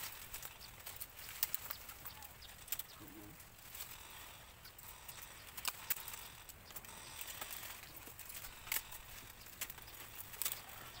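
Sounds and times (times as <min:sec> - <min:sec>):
bamboo stems crackling and snapping: 0:00.0 - 0:11.0.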